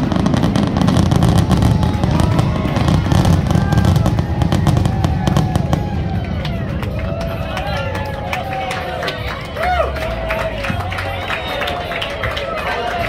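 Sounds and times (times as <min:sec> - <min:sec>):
fireworks cracking and banging: 0:00.0 - 0:11.9
continuous rumble: 0:00.0 - 0:13.0.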